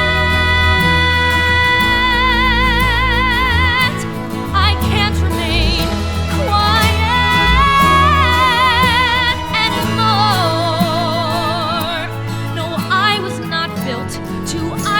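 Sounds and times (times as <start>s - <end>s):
instrumental backing: 0.0s - 14.9s
person singing with vibrato: 0.0s - 14.9s.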